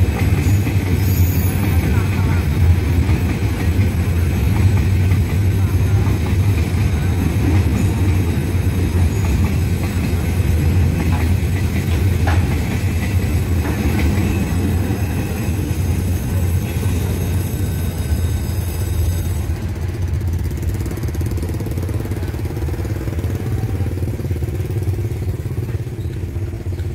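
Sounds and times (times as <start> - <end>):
vehicle engines rumbling: 0.0 - 26.9.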